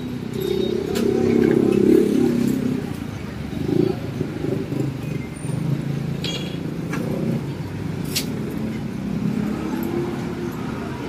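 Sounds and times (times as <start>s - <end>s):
passing cars: 0.0s - 11.0s
passing motorcycles: 0.0s - 11.0s.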